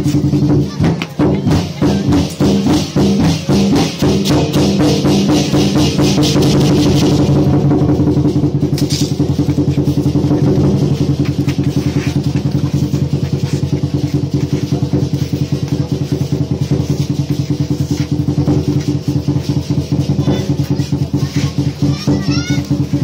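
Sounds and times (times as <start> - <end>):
drum roll: 0.0 - 23.0.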